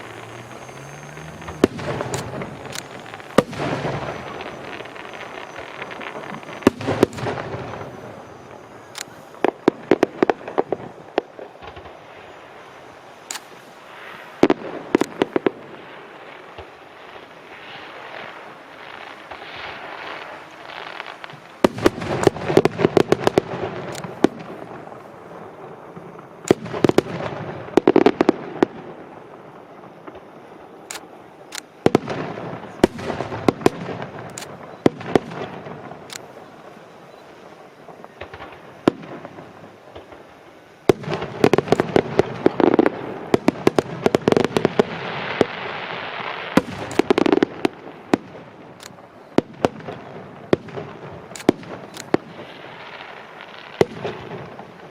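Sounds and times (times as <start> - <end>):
fireworks bursting with sharp bangs: 0.0 - 54.9
fireworks crackling: 0.0 - 54.9.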